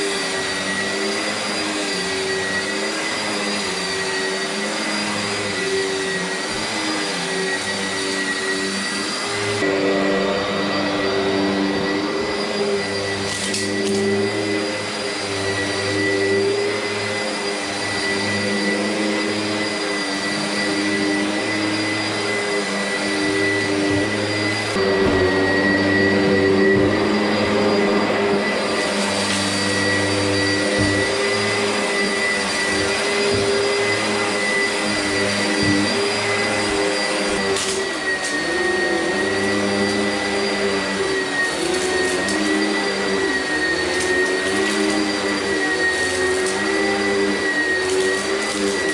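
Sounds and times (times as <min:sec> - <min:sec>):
vacuum cleaner running on carpet: 0:00.0 - 0:48.9.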